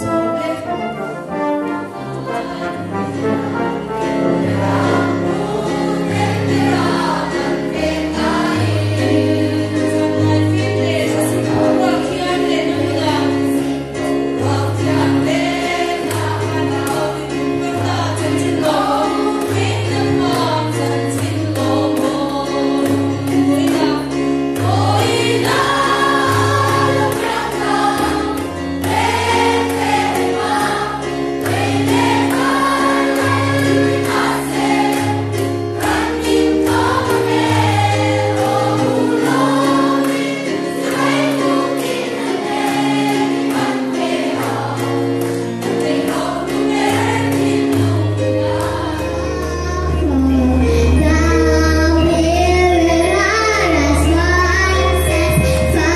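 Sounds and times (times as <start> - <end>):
choir singing: 0.0 - 52.0
amplified accompaniment with bass line: 0.0 - 55.9.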